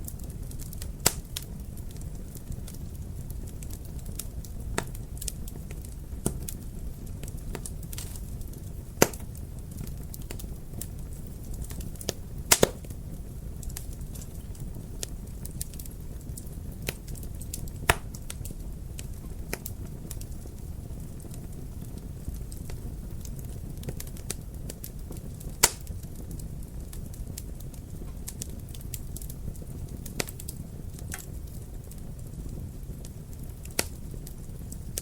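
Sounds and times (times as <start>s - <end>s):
sharp pops of fire: 0.0s - 35.0s
wood fire crackling: 0.0s - 35.0s.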